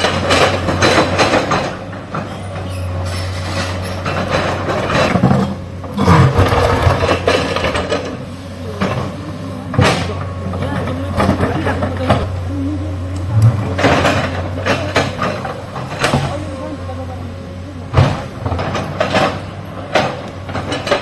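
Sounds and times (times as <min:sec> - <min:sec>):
diesel engine droning: 0:00.0 - 0:21.0
excavator metallic clanking and scraping: 0:00.0 - 0:21.0.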